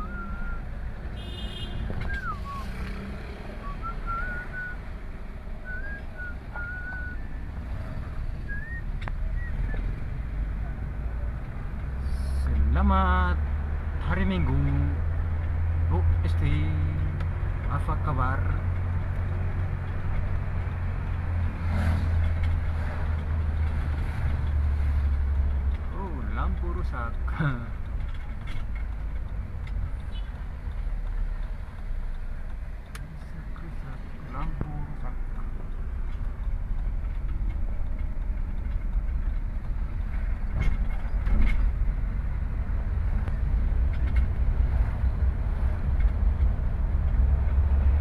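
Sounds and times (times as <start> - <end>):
car engine and tyres droning: 0.0 - 48.0.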